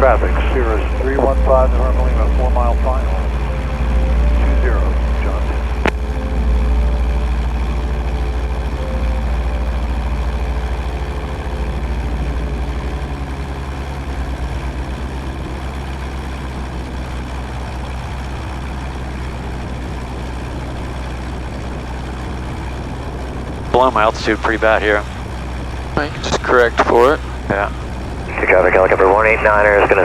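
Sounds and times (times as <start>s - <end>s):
aircraft engine droning in cabin: 0.0s - 30.0s.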